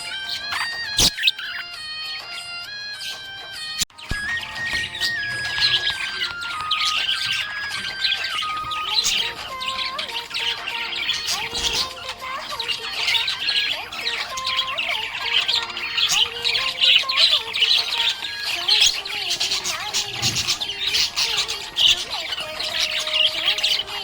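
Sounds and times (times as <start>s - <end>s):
background music: 0.0s - 24.0s
budgerigar chirping: 0.0s - 24.0s.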